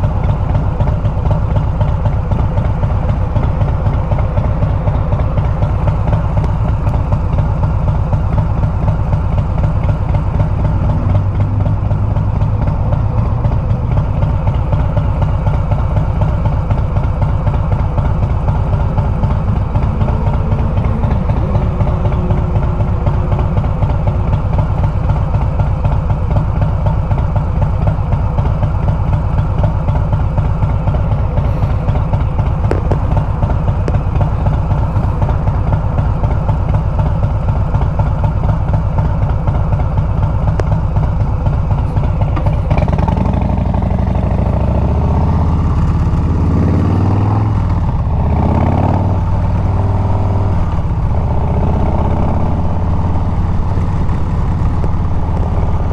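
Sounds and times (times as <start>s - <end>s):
motorcycle engine running while riding: 0.0s - 55.9s.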